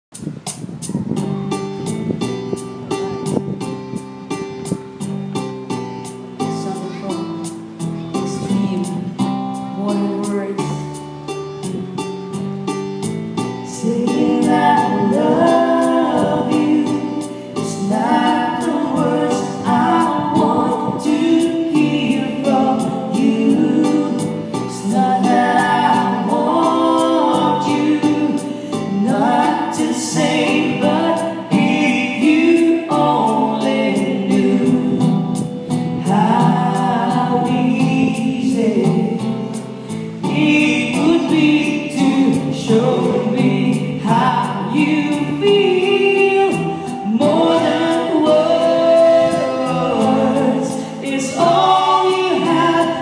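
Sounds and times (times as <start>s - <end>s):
woman singing slow melody: 3.2s - 11.2s, 13.7s - 53.0s.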